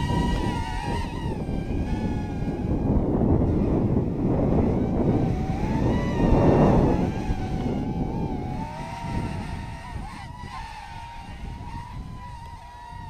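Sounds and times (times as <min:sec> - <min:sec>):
drone motors whining: 0:00.0 - 0:13.0
wind rumble on microphone: 0:00.0 - 0:13.0.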